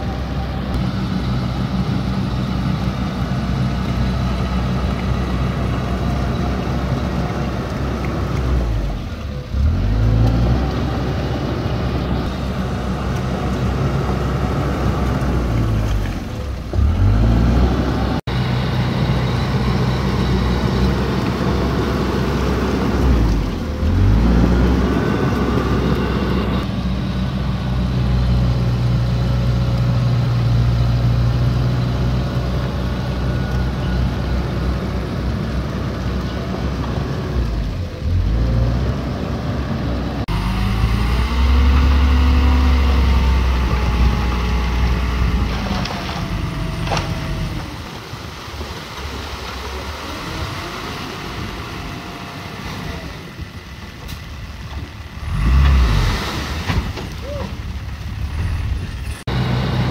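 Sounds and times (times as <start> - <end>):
bulldozer diesel engine running hard: 0.0 - 59.9.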